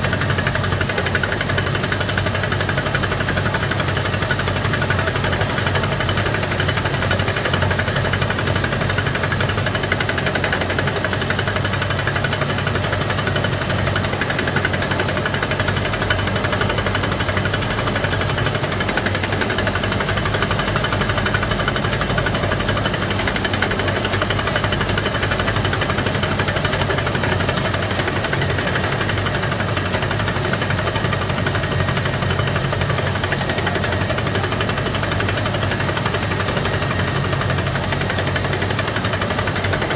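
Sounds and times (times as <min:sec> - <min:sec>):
hydraulic drill pounding: 0:00.0 - 0:39.9.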